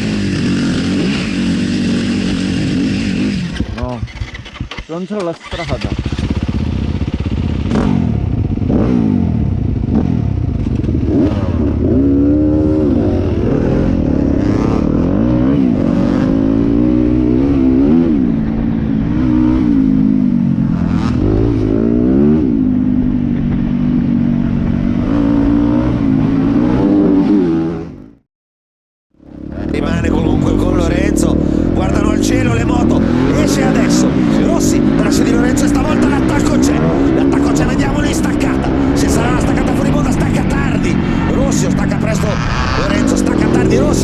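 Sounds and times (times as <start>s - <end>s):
motorcycle engine revving: 0.0s - 28.3s, 29.2s - 44.0s.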